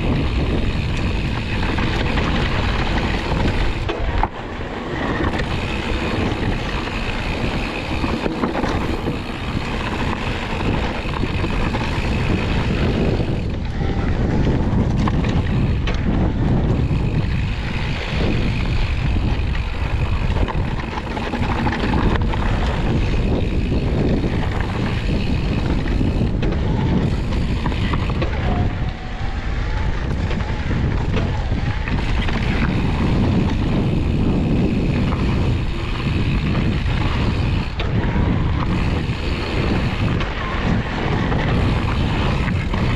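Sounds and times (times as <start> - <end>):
bike rattling: 0.0 - 42.9
knobby tyres rumbling on dirt: 0.0 - 42.9
wind buffeting the microphone: 0.0 - 42.9.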